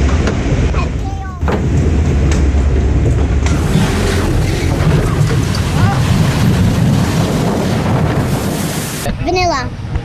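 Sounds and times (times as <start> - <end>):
low rumble: 0.0 - 9.1
water rushing: 0.0 - 9.2
wind buffeting microphone: 0.0 - 10.0.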